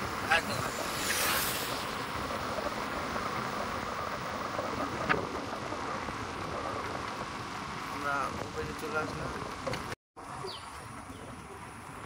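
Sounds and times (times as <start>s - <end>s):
wind rushing over microphone: 0.0s - 10.0s
road noise: 0.0s - 12.0s.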